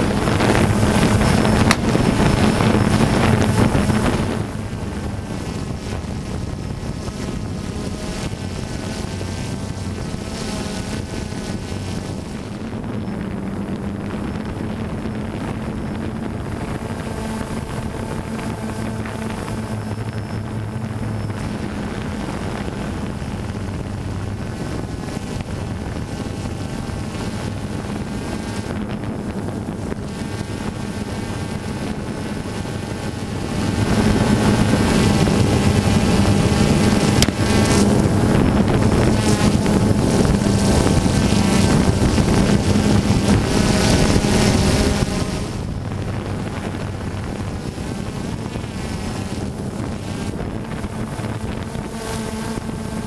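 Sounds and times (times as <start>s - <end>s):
drone propellers humming: 0.0s - 53.0s.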